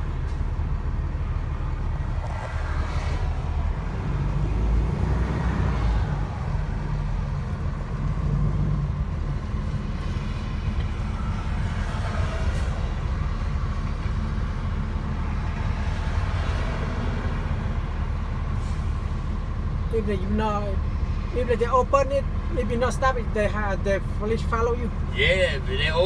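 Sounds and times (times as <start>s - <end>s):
faint road and traffic noise: 0.0s - 26.0s
truck engine rumble: 0.0s - 26.0s.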